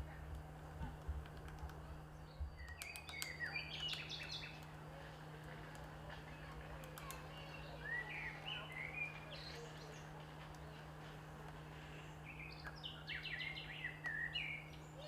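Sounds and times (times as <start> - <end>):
steady low hum: 0.0 - 15.0
small birds chirping: 0.3 - 15.0.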